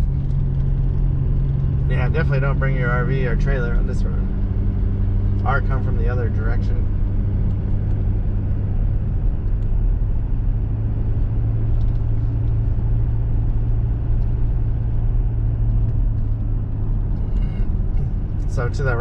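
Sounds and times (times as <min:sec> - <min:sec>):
truck engine and tyres droning: 0:00.0 - 0:19.0.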